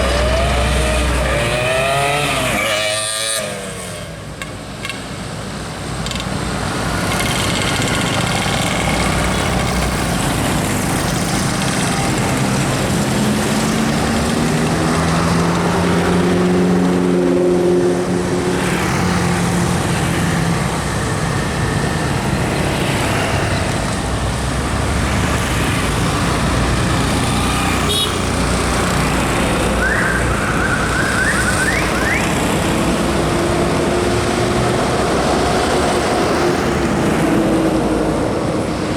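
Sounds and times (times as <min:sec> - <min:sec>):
road traffic: 0:00.0 - 0:38.9
heavy vehicle diesel engine: 0:04.0 - 0:38.9.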